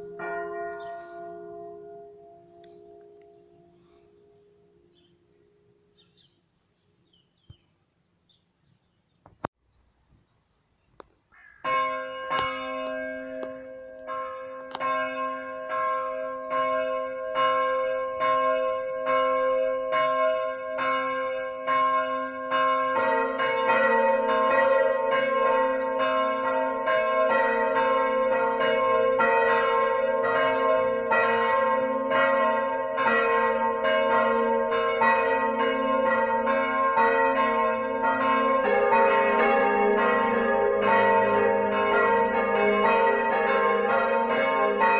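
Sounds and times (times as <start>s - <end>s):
high-pitched church bell: 0.0s - 5.7s, 11.6s - 44.9s
lower church bell: 0.0s - 6.2s, 11.6s - 44.9s.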